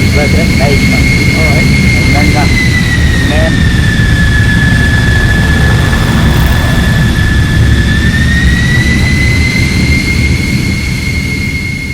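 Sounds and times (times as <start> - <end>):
high turbine whine: 0.0 - 11.9
jet engine rumble in cabin: 0.0 - 11.9.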